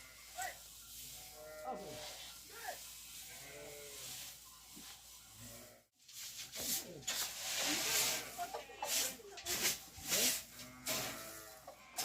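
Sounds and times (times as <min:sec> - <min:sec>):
farm animal calls: 0:00.0 - 0:05.8, 0:07.6 - 0:12.0
straw rustling: 0:00.0 - 0:12.0.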